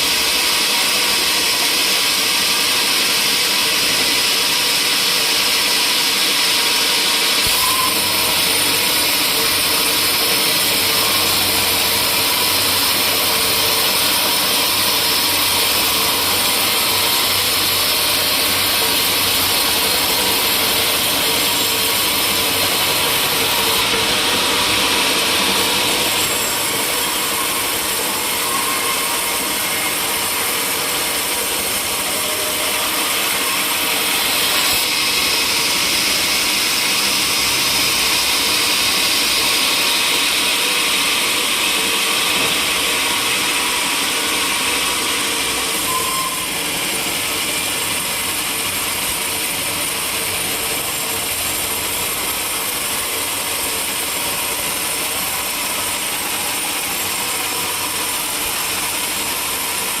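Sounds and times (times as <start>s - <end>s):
sawmill saw cutting timber: 0.0s - 60.0s.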